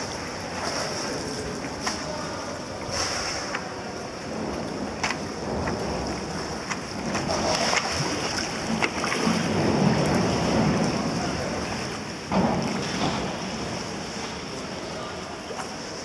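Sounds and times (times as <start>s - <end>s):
pool water lapping: 0.0s - 16.0s.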